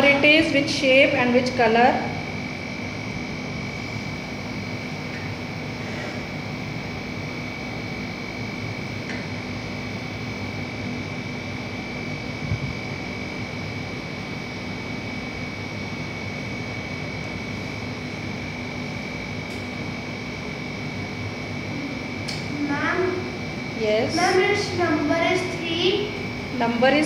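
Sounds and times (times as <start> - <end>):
room hum and hiss: 0.0 - 27.0
thin high whine: 0.0 - 27.0.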